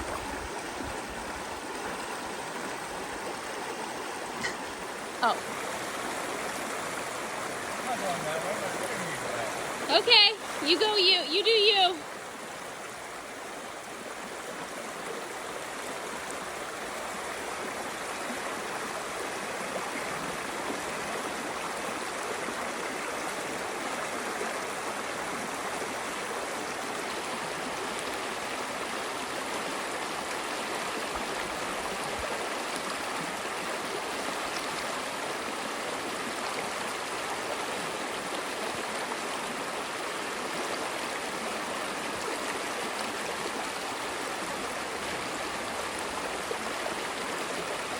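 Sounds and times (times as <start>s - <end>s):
stream water flowing: 0.0s - 47.9s.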